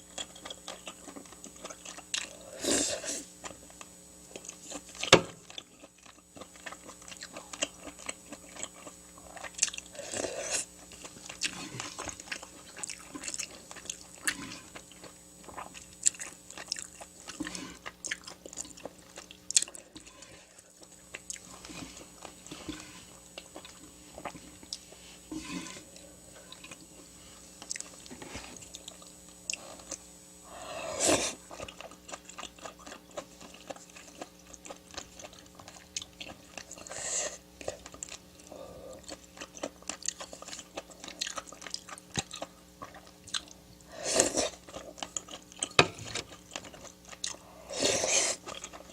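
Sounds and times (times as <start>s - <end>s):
chewing with crunches: 0.0s - 48.9s.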